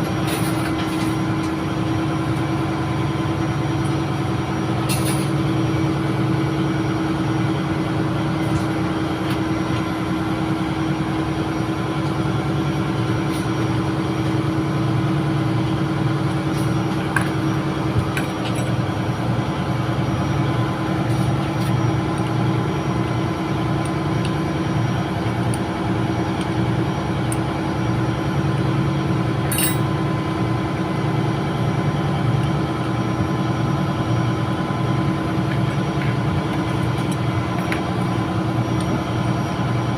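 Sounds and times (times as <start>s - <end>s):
diesel machinery drone: 0.0s - 39.9s.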